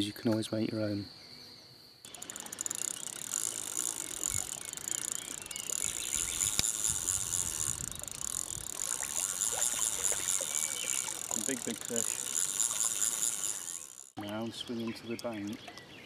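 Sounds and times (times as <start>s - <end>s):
fishing reel ticking: 2.1s - 15.4s.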